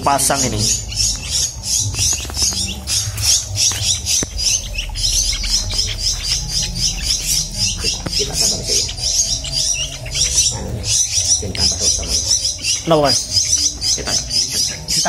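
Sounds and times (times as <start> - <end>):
young songbirds chirping: 0.0 - 15.0.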